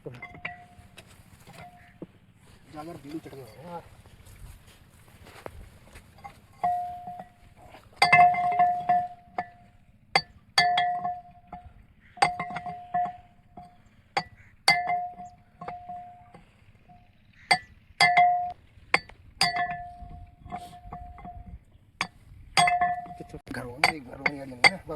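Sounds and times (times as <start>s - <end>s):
metal tool striking metal: 0.0s - 2.0s, 6.2s - 24.9s.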